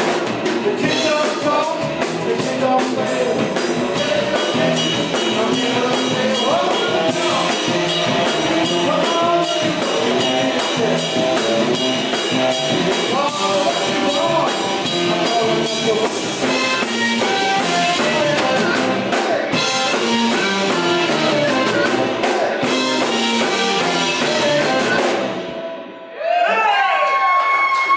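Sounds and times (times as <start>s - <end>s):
live blues-rock band playing: 0.0s - 26.1s.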